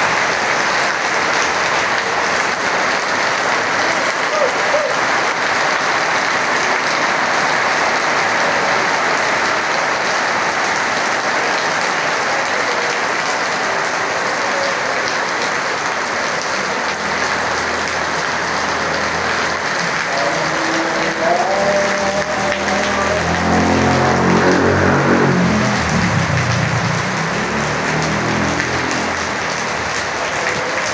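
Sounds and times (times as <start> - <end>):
heavy rain falling: 0.0 - 30.9.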